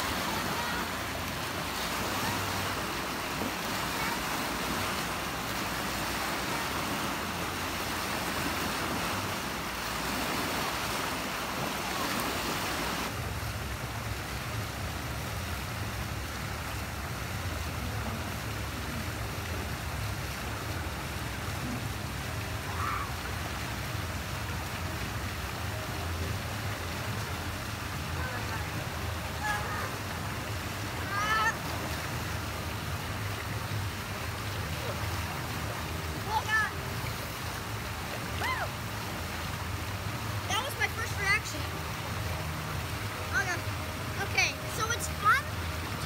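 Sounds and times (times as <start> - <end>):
churning splashing water: 0.0 - 46.0
water pouring into a pool: 0.0 - 46.0.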